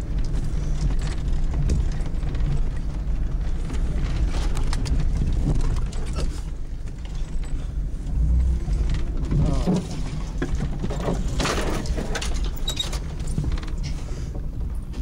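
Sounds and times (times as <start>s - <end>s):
body and suspension rattles: 0.0s - 15.0s
engine drone: 0.0s - 15.0s.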